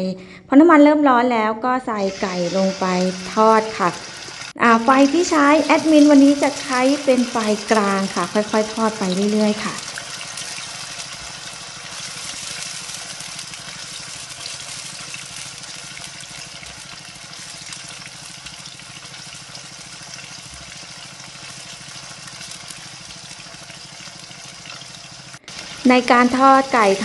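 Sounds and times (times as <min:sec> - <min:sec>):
chicken sizzling in hot oil: 0:02.0 - 0:27.0.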